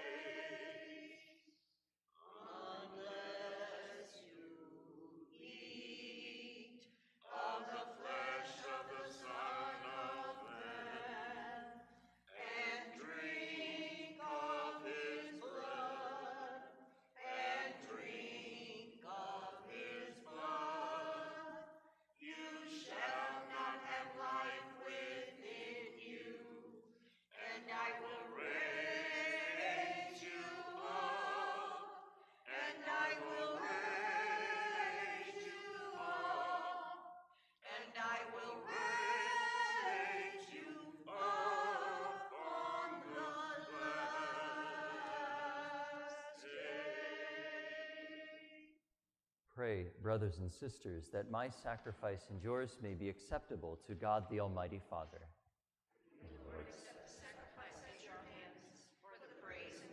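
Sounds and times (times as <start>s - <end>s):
church choir singing a hymn: 0.0s - 1.4s, 2.2s - 48.7s, 56.1s - 59.9s.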